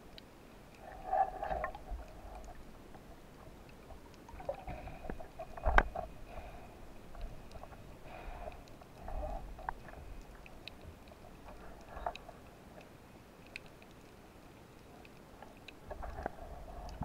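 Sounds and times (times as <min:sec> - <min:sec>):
faint low water rumbles: 0:00.0 - 0:17.0
underwater clicks and crackles: 0:00.0 - 0:17.0.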